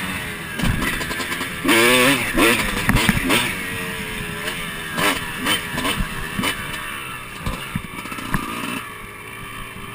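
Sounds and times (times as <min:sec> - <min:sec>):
dirt bike engine revving: 0:00.0 - 0:09.9.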